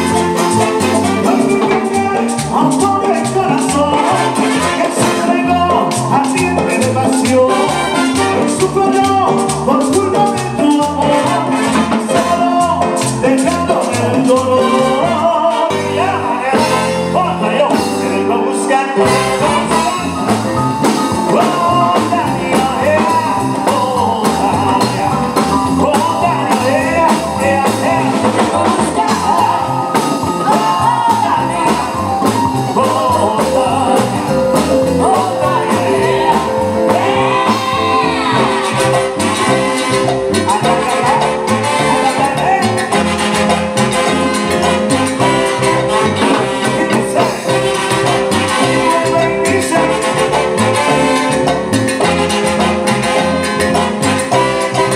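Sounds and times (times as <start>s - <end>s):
congas: 0.0s - 54.9s
latin dance band playing: 0.0s - 54.9s
person singing lead vocal: 0.0s - 54.9s.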